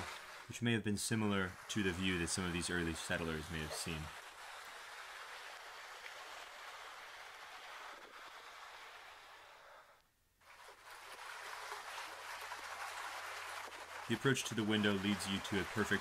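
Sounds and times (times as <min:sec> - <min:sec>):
creek running over rock: 0:00.0 - 0:16.0.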